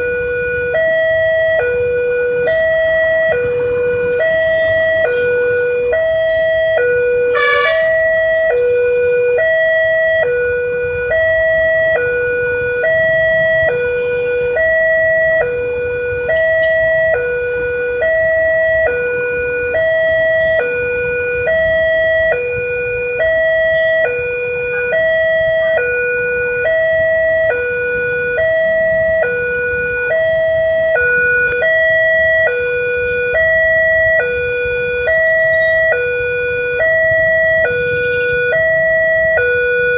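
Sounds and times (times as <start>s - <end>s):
road traffic rumble: 0.0s - 39.9s
two-tone crossing warning siren: 0.0s - 39.9s.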